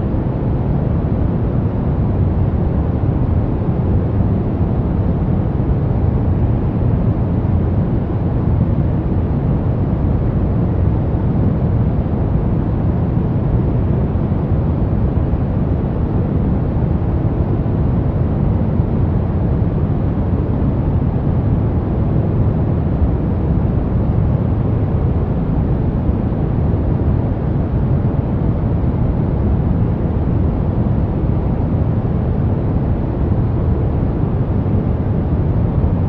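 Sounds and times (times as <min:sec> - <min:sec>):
brown noise rumbling hiss: 0:00.0 - 0:36.0.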